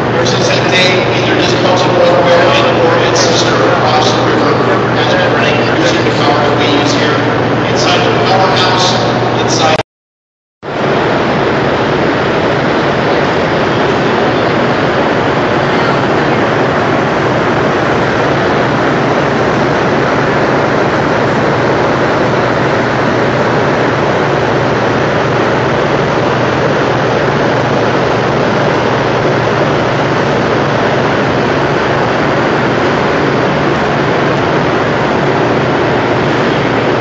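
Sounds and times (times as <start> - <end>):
generators roaring: 0.0 - 9.8, 10.6 - 37.0.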